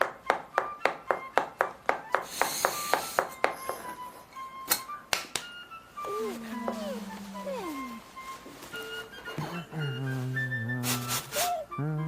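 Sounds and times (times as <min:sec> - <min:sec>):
faint music tones: 0:00.0 - 0:12.0.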